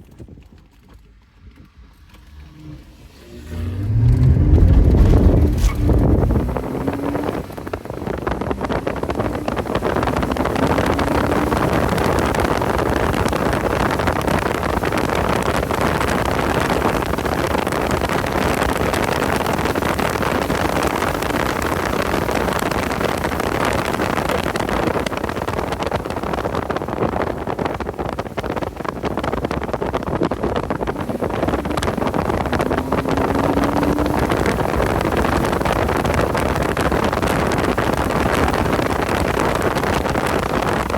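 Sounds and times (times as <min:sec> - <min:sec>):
wind noise on microphone: 0:00.0 - 0:40.9
car engine: 0:00.6 - 0:40.9.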